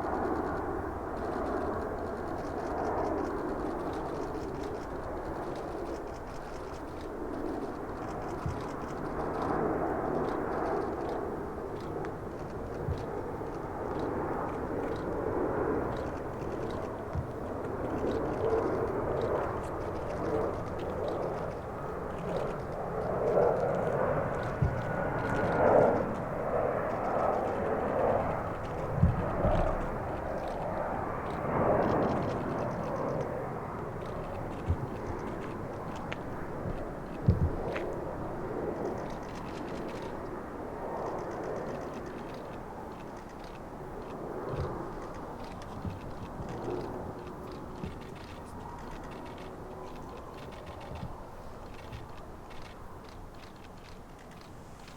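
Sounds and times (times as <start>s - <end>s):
faint thin whine: 0.0s - 54.9s
jet engines rumbling: 0.0s - 54.9s.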